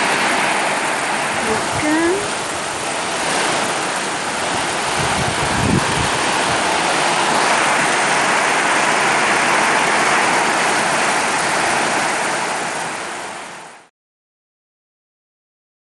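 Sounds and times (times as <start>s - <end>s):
heavy rain on a metal roof: 0.0s - 13.9s.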